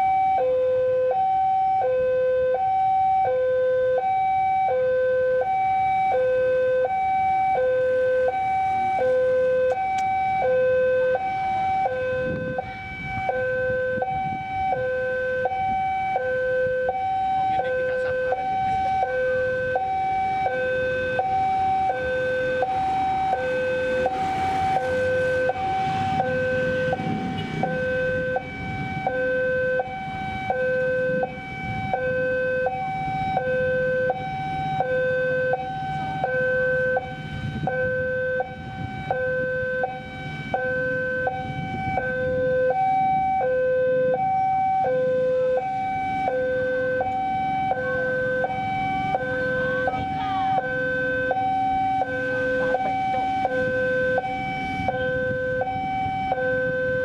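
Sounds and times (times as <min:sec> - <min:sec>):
two-tone electronic alarm: 0:00.0 - 0:57.0
diesel locomotive engine rumble: 0:05.5 - 0:57.0.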